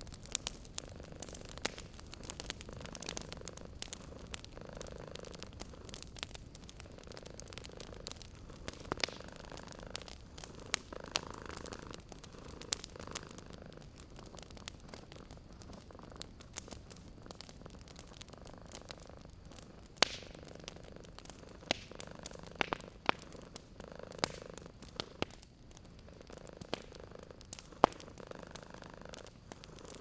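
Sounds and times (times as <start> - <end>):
wood fire crackling and popping: 0.0 - 30.0
cat purring: 0.2 - 30.0.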